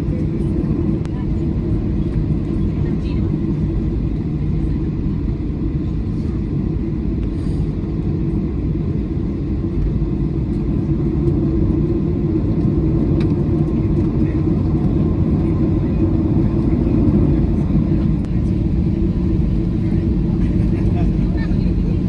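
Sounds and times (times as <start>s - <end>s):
airplane engine rumble in cabin: 0.0s - 22.0s.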